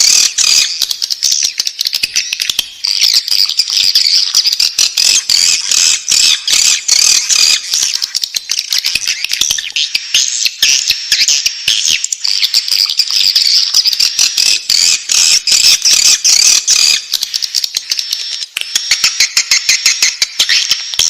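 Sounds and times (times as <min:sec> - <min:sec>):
swiftlet chicks chittering: 0:00.0 - 0:21.0.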